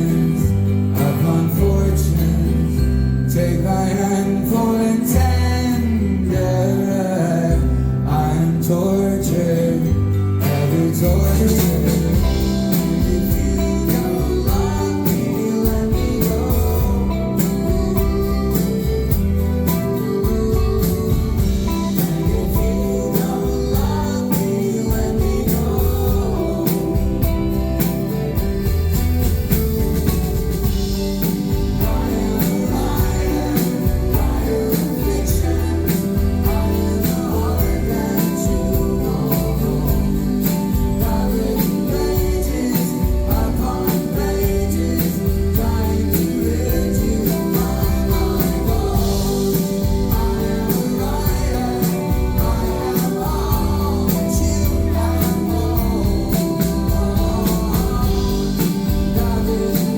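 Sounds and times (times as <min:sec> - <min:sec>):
electric guitars: 0:00.0 - 0:59.9
live rock band playing: 0:00.0 - 0:59.9
steady drum beat: 0:10.4 - 0:59.9.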